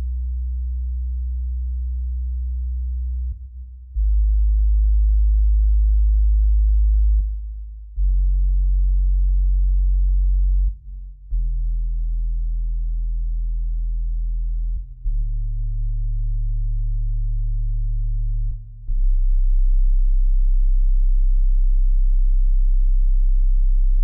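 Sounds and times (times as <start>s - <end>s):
deep sub-bass tones: 0.0s - 24.0s.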